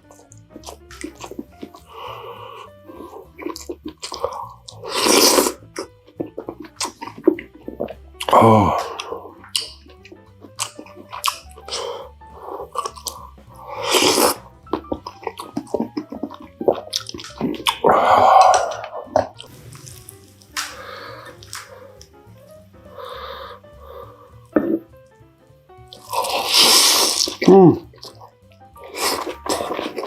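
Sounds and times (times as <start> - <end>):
chewing with crisp crunches: 0.0 - 25.2, 25.8 - 30.0.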